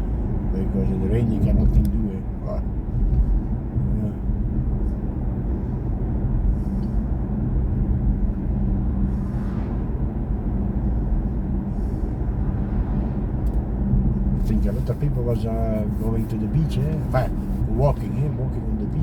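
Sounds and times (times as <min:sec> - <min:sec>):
road and tyre rumble inside car: 0:00.0 - 0:19.0.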